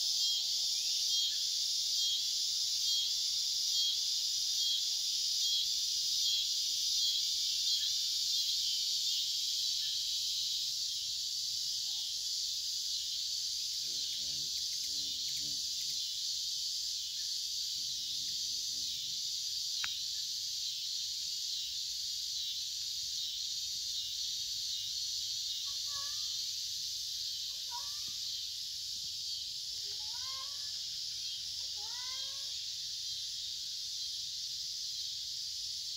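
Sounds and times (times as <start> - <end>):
insect chorus buzzing: 0.0 - 35.9.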